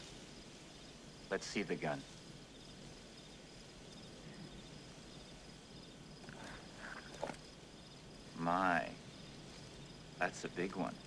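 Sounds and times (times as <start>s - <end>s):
crickets chirping faintly: 0.0s - 11.0s.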